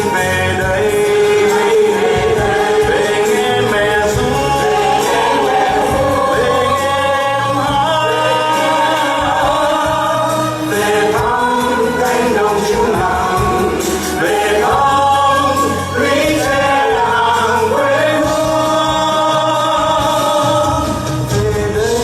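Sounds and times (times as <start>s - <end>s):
group of singers: 0.0s - 22.0s
instrumental accompaniment: 0.0s - 22.0s.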